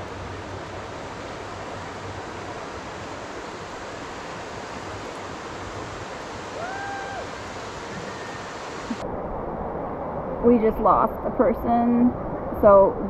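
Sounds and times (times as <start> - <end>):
whitewater rushing: 0.0 - 11.1.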